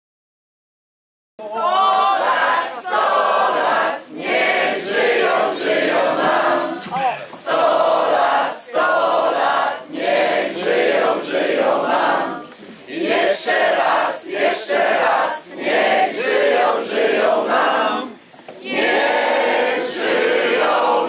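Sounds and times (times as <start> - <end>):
group of people chanting: 1.4 - 21.0.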